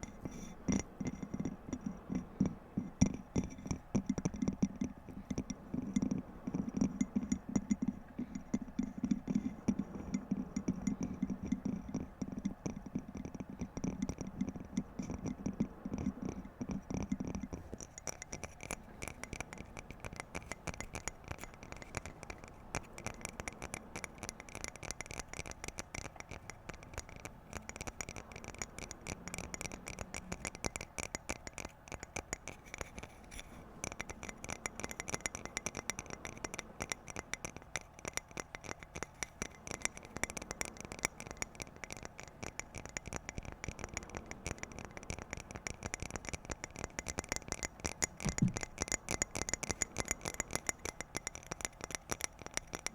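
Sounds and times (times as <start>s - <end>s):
fast tapping on objects: 0.0s - 52.9s.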